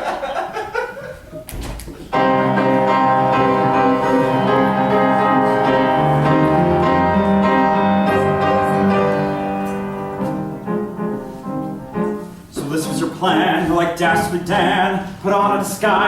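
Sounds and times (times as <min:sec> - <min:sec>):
piano chords: 0:02.1 - 0:16.0.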